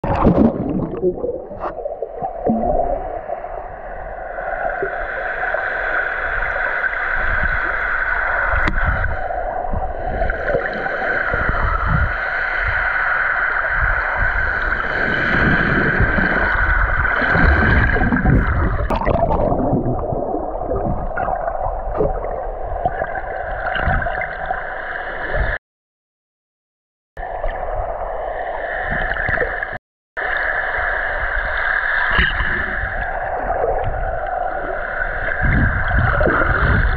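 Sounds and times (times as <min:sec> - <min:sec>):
water rumbles and gurgles: 0:00.0 - 0:25.6, 0:27.2 - 0:36.9.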